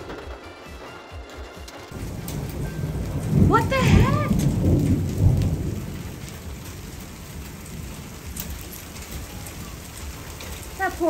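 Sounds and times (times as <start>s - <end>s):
rain and hail falling: 0.0s - 11.0s
thunder rumbling: 0.0s - 11.0s.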